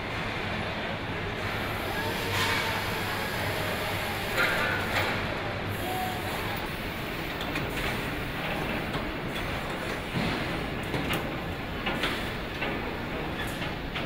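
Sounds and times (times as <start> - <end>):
machinery and conveyors din: 0.0 - 14.0.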